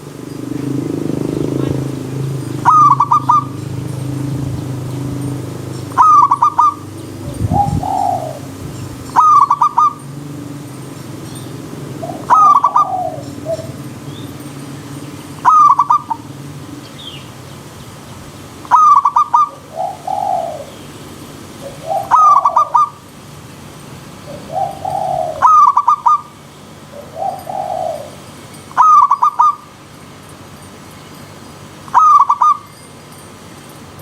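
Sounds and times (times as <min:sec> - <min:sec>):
soft low bird calls: 0:00.1 - 0:10.2, 0:11.4 - 0:23.1, 0:24.2 - 0:29.8, 0:31.8 - 0:33.0
dove cooing: 0:00.1 - 0:17.4, 0:18.6 - 0:23.1, 0:24.2 - 0:29.7, 0:31.9 - 0:32.7.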